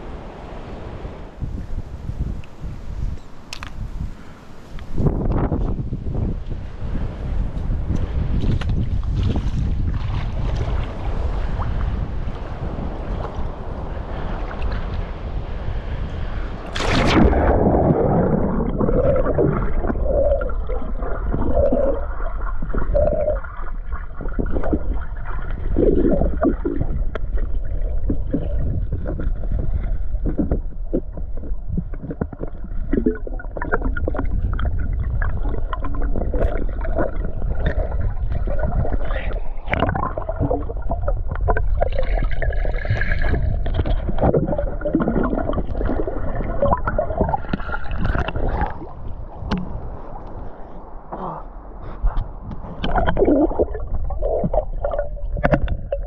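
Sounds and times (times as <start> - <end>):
underwater river rush: 0.0 - 56.0.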